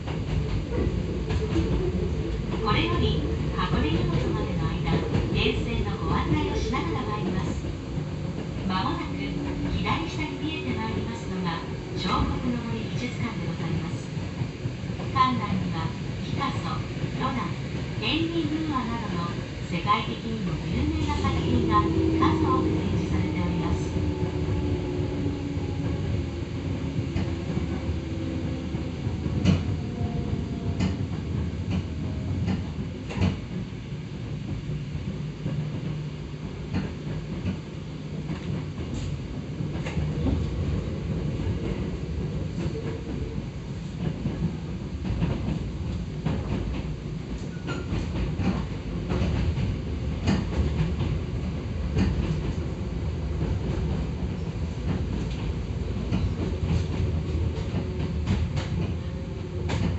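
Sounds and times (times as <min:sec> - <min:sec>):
rail joint clicks: 0:00.0 - 0:17.4, 0:19.8 - 0:33.8, 0:36.6 - 0:59.9
train wheel and track rumble: 0:00.0 - 0:59.9.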